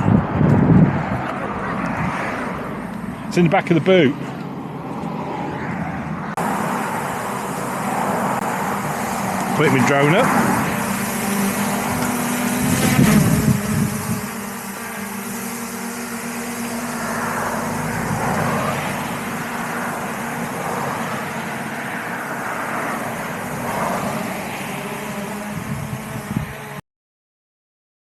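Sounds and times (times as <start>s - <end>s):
road traffic passing: 0.0s - 26.8s.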